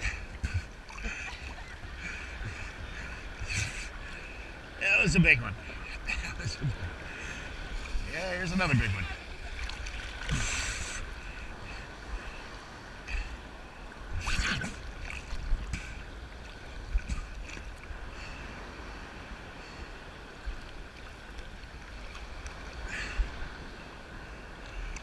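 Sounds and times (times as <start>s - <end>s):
ocean surf washing: 0.0s - 25.0s.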